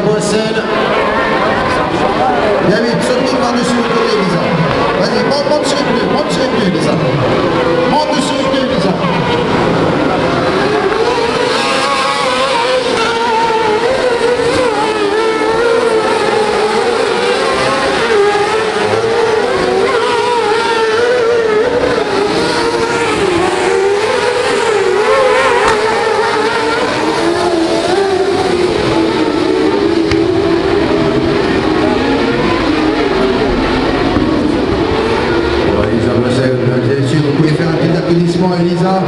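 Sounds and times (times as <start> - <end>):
racing buggy engines revving: 0.0 - 39.0.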